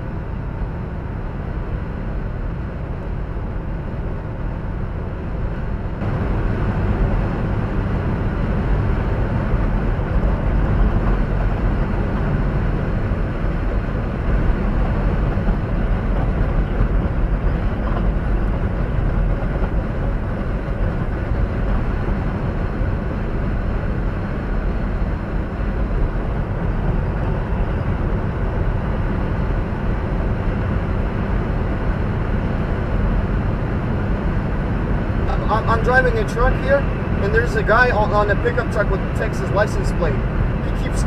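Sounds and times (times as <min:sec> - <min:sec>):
truck engine and tyres droning: 0:00.0 - 0:41.0.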